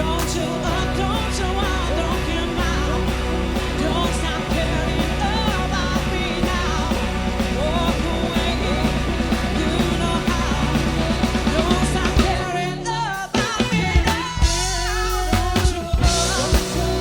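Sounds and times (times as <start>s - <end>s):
drum kit beat: 0.0s - 17.0s
electric bass: 0.0s - 17.0s
person singing: 0.0s - 17.0s.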